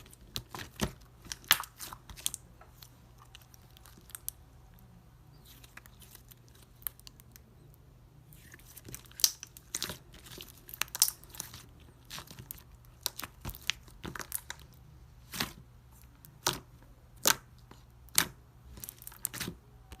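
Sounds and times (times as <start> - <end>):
slime crust crackling: 0.0 - 7.5, 8.3 - 20.0.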